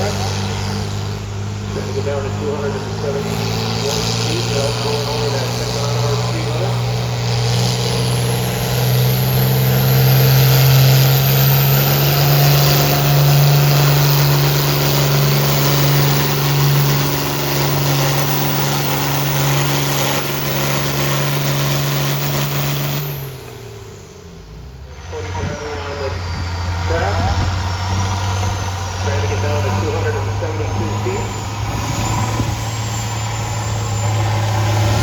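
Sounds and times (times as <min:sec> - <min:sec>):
tractor engine running hard: 0:00.0 - 0:35.0.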